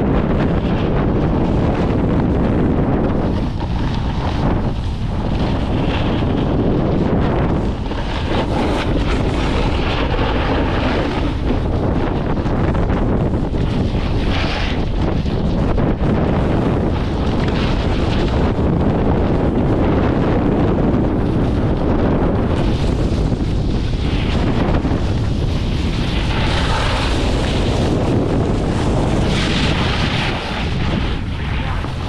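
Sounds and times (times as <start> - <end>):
snowboard scraping over snow: 0.0 - 32.0
wind buffeting microphone: 0.0 - 32.0.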